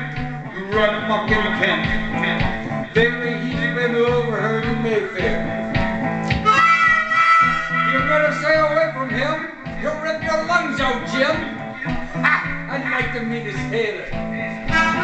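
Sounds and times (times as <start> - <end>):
amplified blues harmonica solo: 0.0 - 15.0
looped guitar backing with beat: 0.0 - 15.0.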